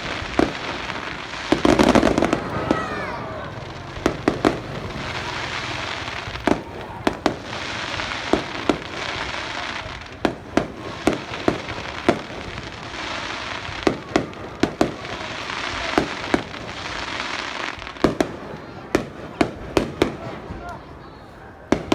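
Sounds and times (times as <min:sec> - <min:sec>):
fireworks bangs: 0:00.0 - 0:21.9
fireworks crackling hiss: 0:00.0 - 0:21.9.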